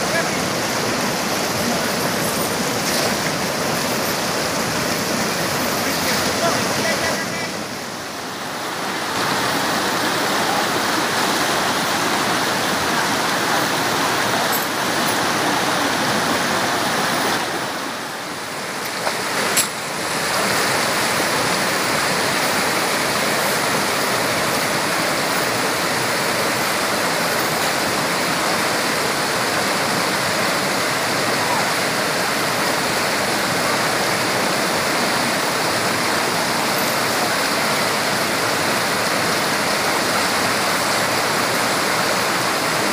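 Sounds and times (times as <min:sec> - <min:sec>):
river rapids rushing over rocks: 0:00.0 - 0:42.9.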